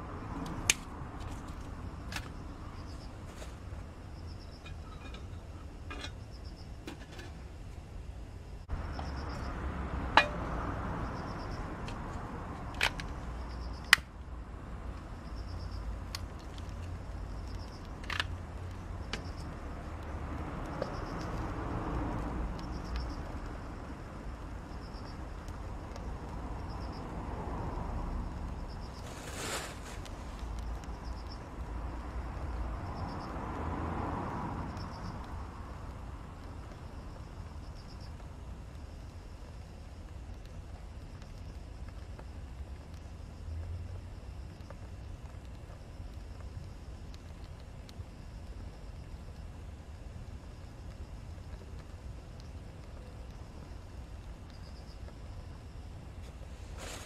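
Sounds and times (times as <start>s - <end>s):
fire crackling pops: 0.2s - 57.0s.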